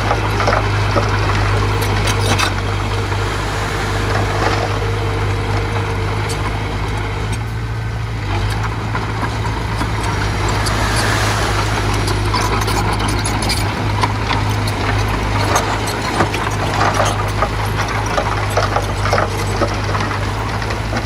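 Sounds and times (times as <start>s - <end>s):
earthmoving machine engine running: 0.0s - 21.0s.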